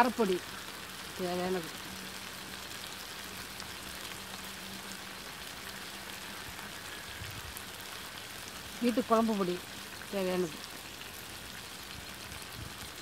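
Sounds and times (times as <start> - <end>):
masala sizzling in oil: 0.0 - 13.0
fine crackles: 0.4 - 13.0.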